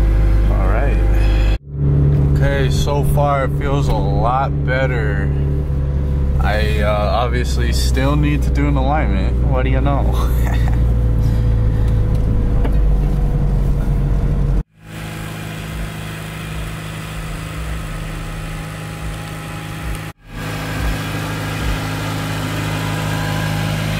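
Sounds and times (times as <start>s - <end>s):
car engine hum: 0.0s - 23.9s
low road rumble: 0.0s - 23.9s.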